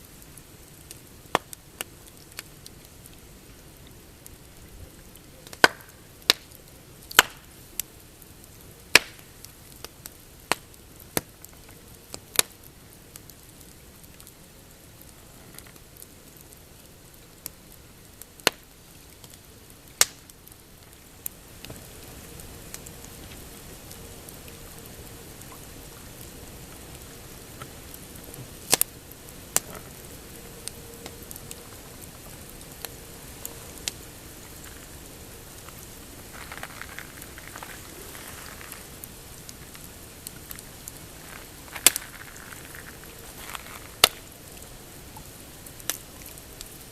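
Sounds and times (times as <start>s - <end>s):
campfire crackling: 0.0s - 46.9s
steady hiss: 0.0s - 46.9s.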